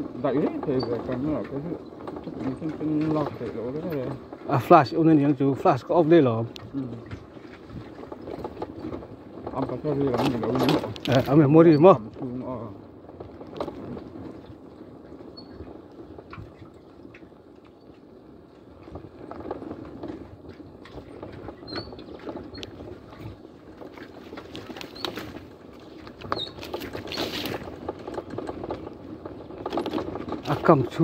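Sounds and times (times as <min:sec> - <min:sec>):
knocks and rattles: 0:00.0 - 0:14.6, 0:18.6 - 0:31.0
vehicle tyres rumbling on dirt track: 0:00.0 - 0:31.0.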